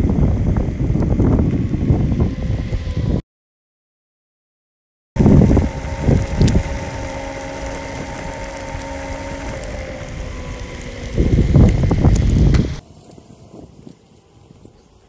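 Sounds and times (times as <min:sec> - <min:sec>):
electric motors whining: 0:00.0 - 0:03.2, 0:05.2 - 0:15.0
wheels rumbling on road: 0:00.0 - 0:03.2, 0:05.2 - 0:15.0
wind gusts on microphone: 0:00.0 - 0:03.2, 0:05.2 - 0:15.0.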